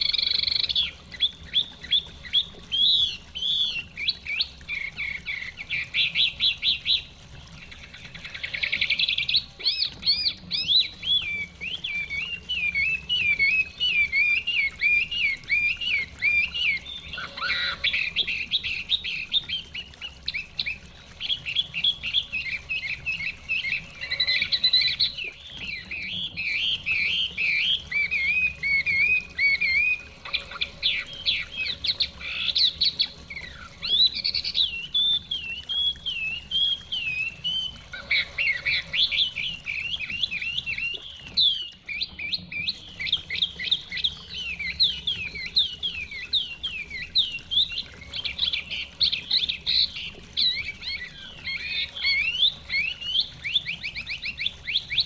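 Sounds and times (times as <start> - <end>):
bird singing whistled trills: 0.0 - 7.1, 7.7 - 55.0.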